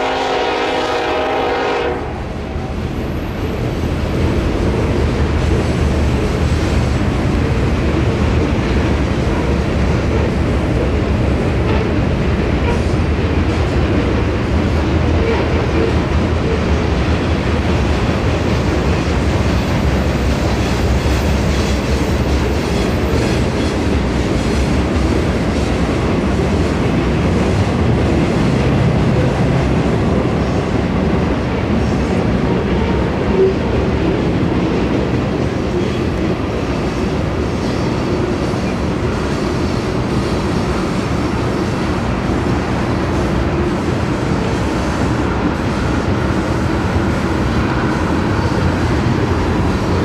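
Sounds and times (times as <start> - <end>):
rumble of wheels on rail: 0.0 - 50.0.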